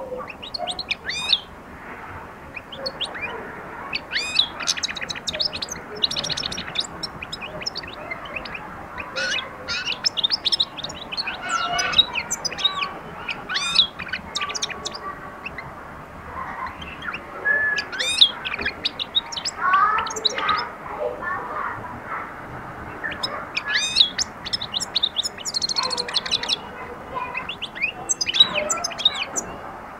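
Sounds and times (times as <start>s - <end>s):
finch singing: 0.0s - 1.6s, 2.4s - 20.8s, 22.7s - 29.6s.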